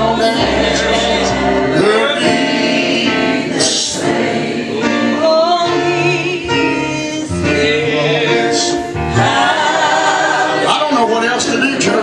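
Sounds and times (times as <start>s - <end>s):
voices singing a gospel hymn: 0.0s - 12.0s.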